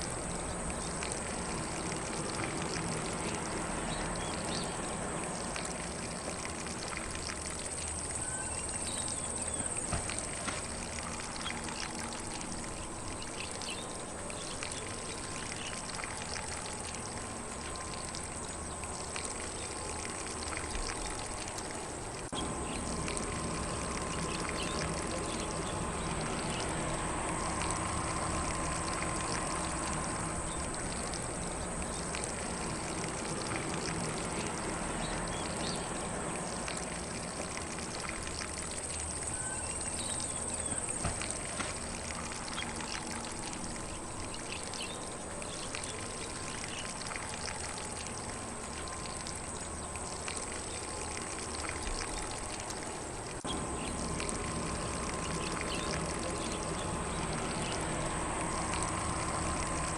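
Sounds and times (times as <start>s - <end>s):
sprinkler spraying water: 0.0s - 59.9s.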